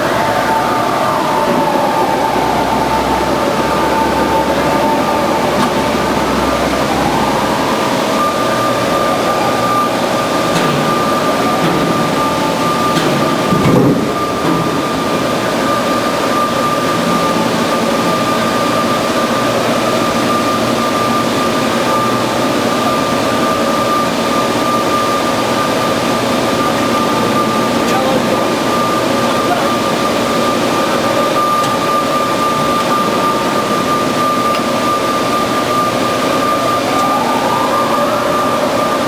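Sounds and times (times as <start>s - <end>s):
band saw whining: 0.0s - 39.0s.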